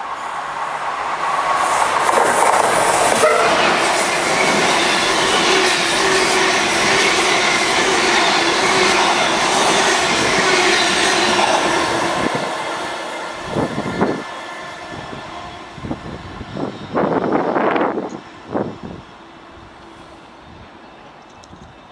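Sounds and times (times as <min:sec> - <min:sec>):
train passing at speed: 0:00.0 - 0:21.9.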